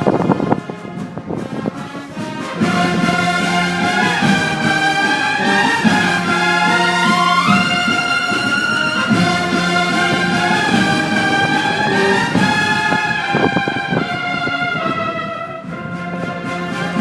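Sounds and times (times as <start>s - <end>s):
brass band playing march: 0.0s - 17.0s
trumpet melody: 0.0s - 17.0s.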